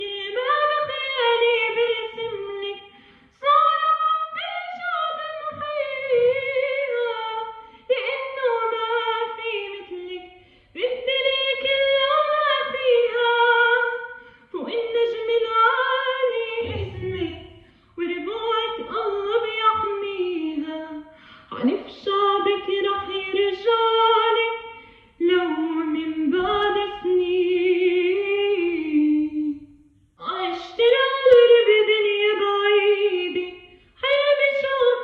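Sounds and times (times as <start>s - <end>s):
woman singing unaccompanied: 0.0s - 35.0s.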